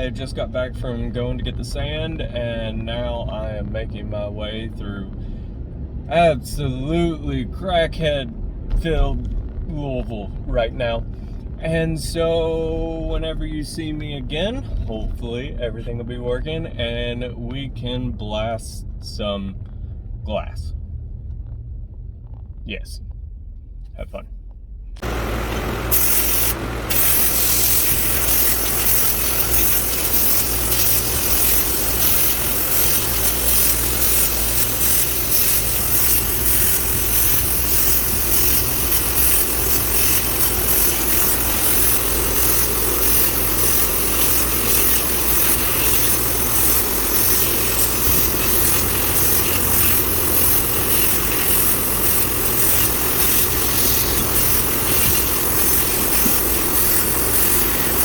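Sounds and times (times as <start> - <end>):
vehicle cabin road and engine drone: 0.0 - 58.0.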